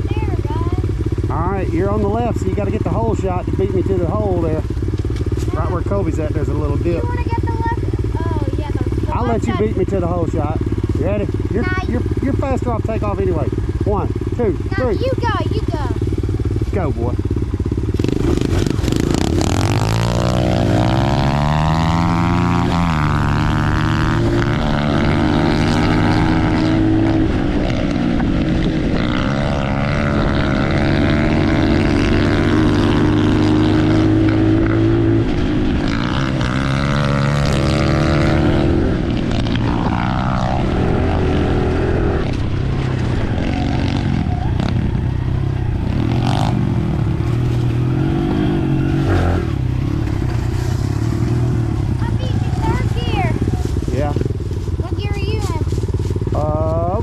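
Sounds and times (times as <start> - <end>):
dirt bike engines accelerating: 0.0 - 57.0.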